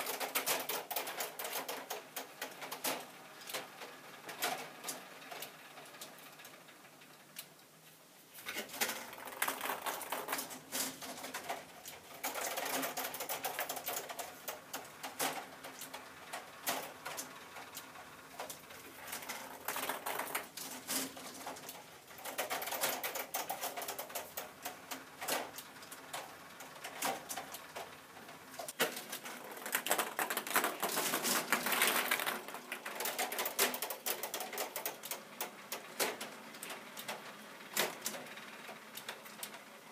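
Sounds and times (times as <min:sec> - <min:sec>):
plastic mechanism clicking and rattling: 0:00.0 - 0:06.6, 0:08.4 - 0:39.7.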